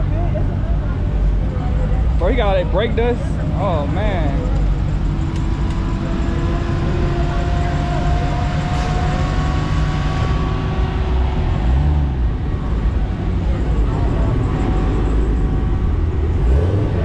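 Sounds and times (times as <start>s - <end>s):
car exhaust rumble: 0.0s - 17.0s.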